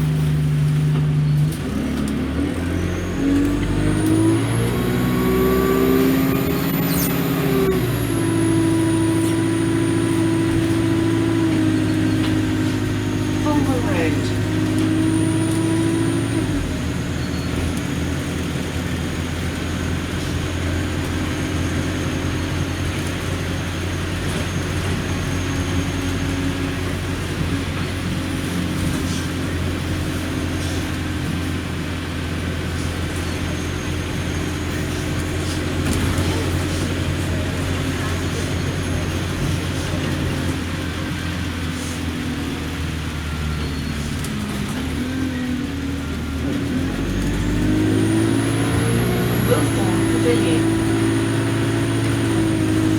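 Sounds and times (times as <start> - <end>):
bus diesel engine humming: 0.0 - 52.9.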